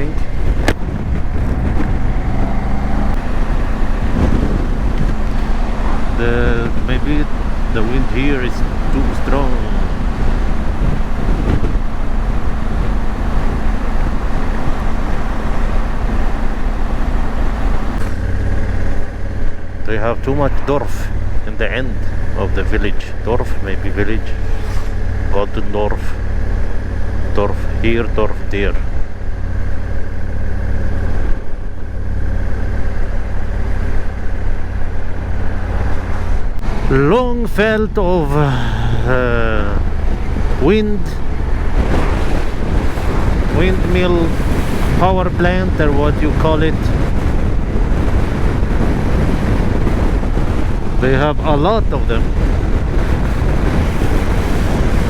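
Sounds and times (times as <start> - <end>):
wind noise on microphone: 0.0 - 22.6, 28.5 - 55.0
motorcycle engine hum: 0.0 - 55.0.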